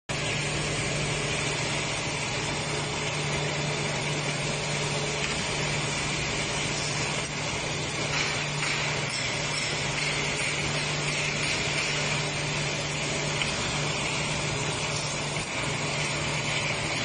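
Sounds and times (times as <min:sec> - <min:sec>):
nail making machine running: 0:00.1 - 0:17.0.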